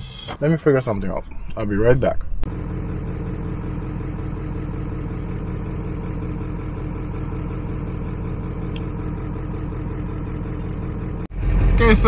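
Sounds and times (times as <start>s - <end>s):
engine idling: 2.3s - 12.0s.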